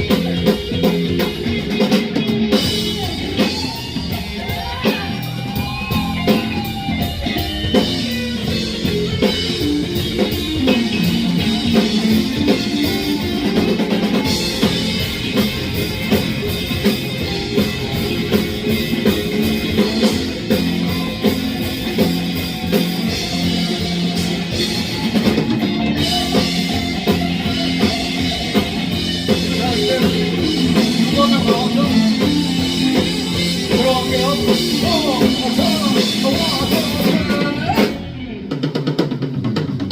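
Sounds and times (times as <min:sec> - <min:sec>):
drum kit beat: 0:00.0 - 0:39.9
guitar: 0:00.0 - 0:39.9
live rock band playing: 0:00.0 - 0:39.9.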